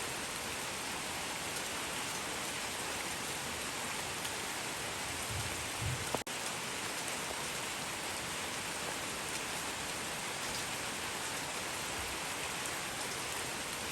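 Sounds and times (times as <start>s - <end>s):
steady rain falling: 0.0s - 13.9s.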